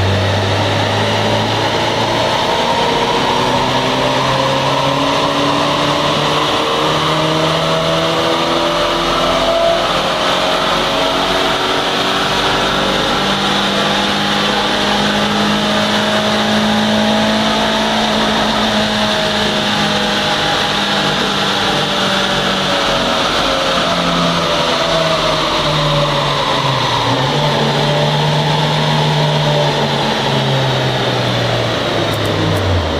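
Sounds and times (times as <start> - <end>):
car engine revving under load: 0.0 - 32.9.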